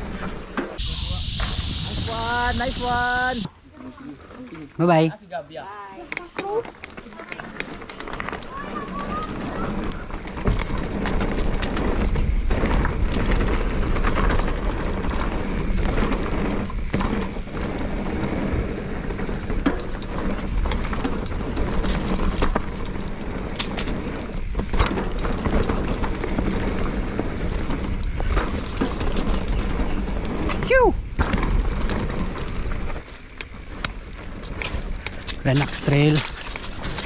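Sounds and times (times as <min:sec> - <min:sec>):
bike rattling over bumps: 0:00.0 - 0:05.2, 0:05.9 - 0:37.0
tyres on dirt and gravel: 0:00.0 - 0:37.0.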